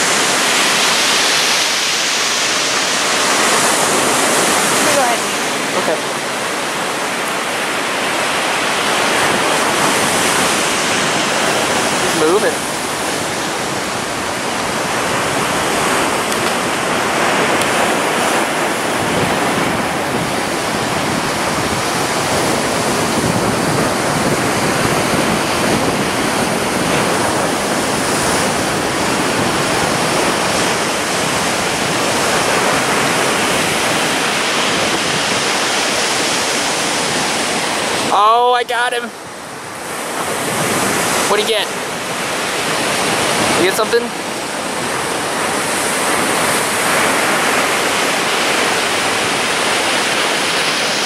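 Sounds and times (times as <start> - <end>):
ocean surf breaking on beach: 0.0 - 51.0.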